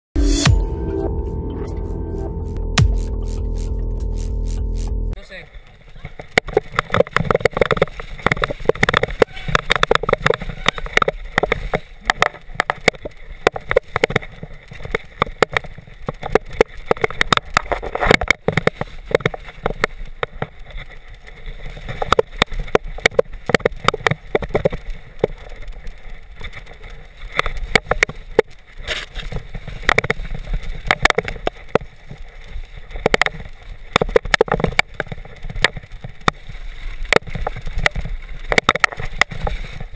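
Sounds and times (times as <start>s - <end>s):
tyre noise: 2.7s - 39.9s
mountain bike rattling over bumps: 5.2s - 39.9s.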